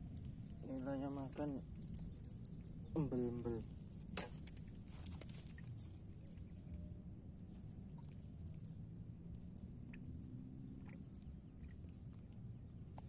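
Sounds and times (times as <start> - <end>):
faint high chirps and ticks: 0.0 - 3.8, 4.5 - 13.0
low steady rumble: 0.0 - 13.0.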